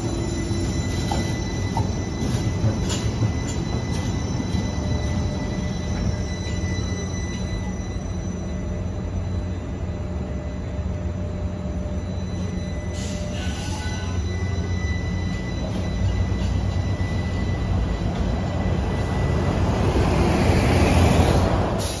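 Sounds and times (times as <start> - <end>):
street noise: 0.0 - 22.0
tram rumbling with high whine: 0.0 - 22.0.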